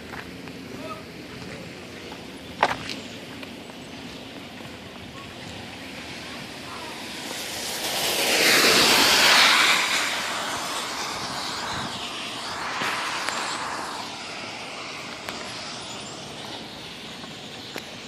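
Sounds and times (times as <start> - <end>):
tyres hissing on wet road: 1.4 - 18.0.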